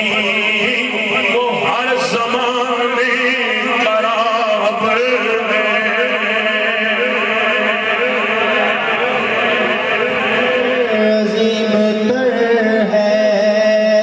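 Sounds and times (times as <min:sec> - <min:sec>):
man chanting through a microphone: 0:00.0 - 0:14.0.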